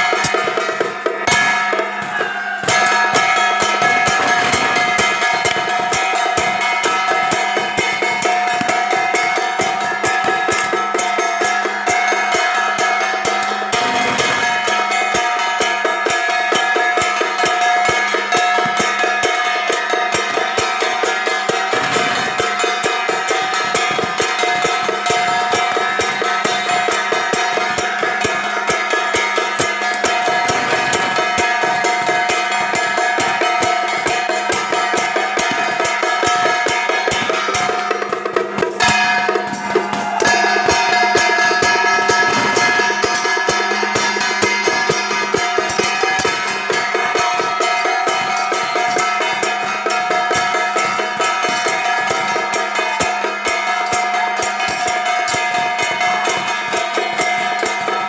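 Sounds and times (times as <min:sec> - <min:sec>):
gongs and cymbals ringing: 0:00.0 - 0:58.0.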